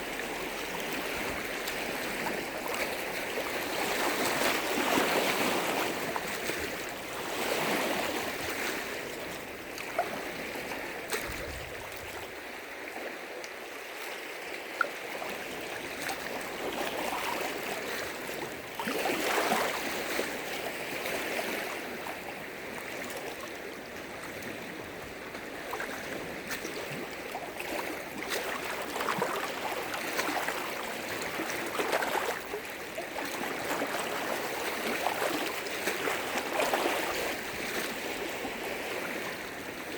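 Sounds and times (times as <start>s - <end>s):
waves washing against shore: 0.0s - 39.9s.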